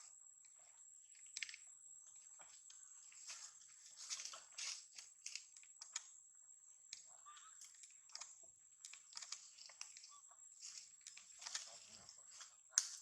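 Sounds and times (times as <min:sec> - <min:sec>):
rustling and crinkling: 0:00.4 - 0:05.7, 0:07.6 - 0:13.0.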